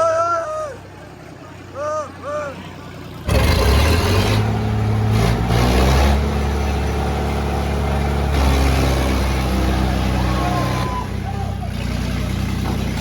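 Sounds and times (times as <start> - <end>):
tractor engine under load: 0.0 - 13.0.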